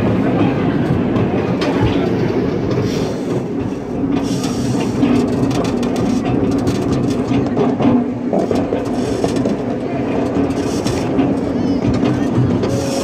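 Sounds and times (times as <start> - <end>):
miniature train wheels rumbling on track: 0.0 - 13.0.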